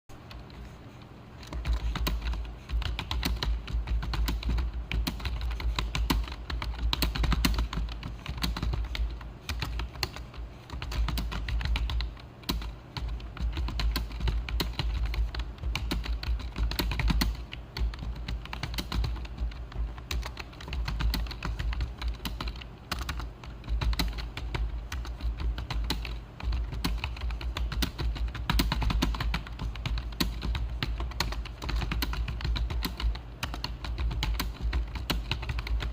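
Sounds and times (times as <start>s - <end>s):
fast typing on keyboard: 0.2s - 35.9s.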